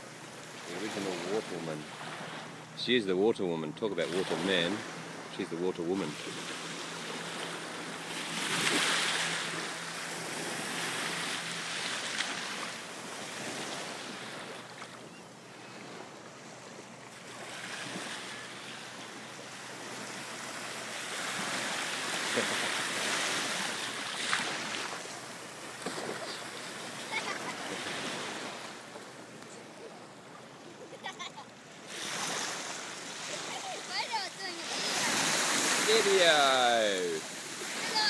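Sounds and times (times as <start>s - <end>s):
small waves lapping: 0.0s - 38.0s.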